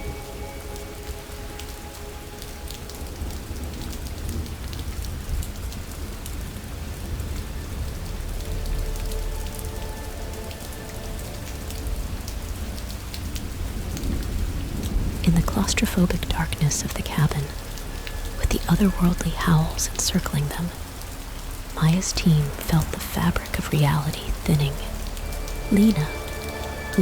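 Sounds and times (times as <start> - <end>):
faint music drone: 0.0 - 5.3, 6.0 - 27.0
rain falling on a surface: 0.0 - 27.0.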